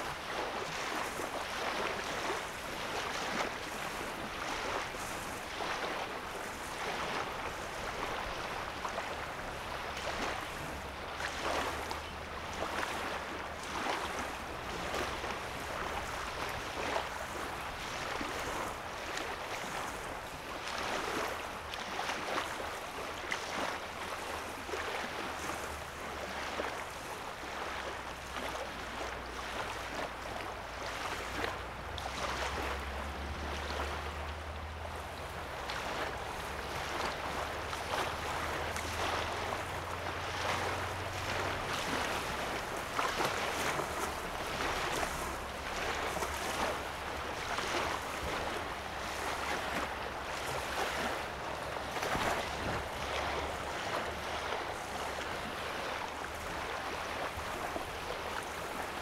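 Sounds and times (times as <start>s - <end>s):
small waves lapping on shore: 0.0s - 59.0s.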